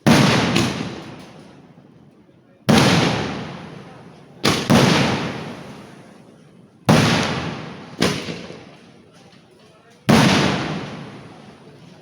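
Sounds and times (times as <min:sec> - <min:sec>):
fireworks blasts with echo: 0:00.0 - 0:09.2, 0:10.0 - 0:12.0.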